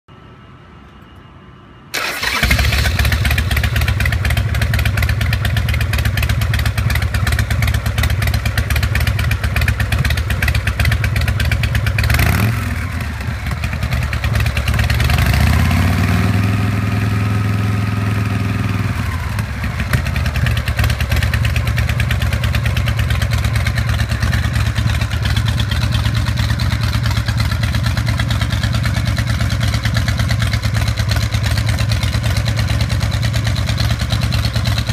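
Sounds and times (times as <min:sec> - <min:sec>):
motorcycle engine starting and idling: 0:01.9 - 0:34.9
motorcycle engine revving: 0:02.0 - 0:34.9.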